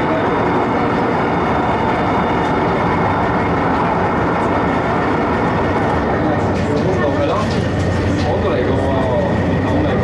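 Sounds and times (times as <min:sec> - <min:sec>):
train running noise inside car: 0:00.0 - 0:10.0.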